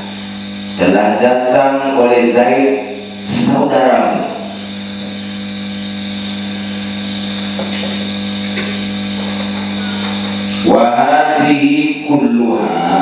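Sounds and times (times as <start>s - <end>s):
cricket chirping: 0.0s - 13.0s
electrical hum: 0.0s - 13.0s.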